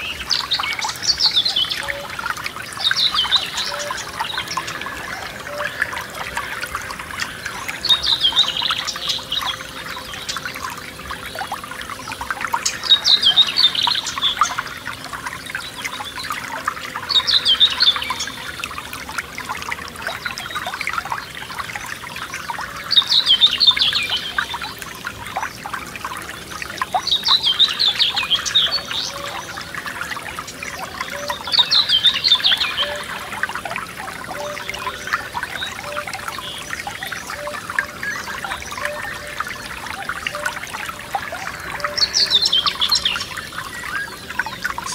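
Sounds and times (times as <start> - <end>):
stream trickling and splashing: 0.0 - 44.9.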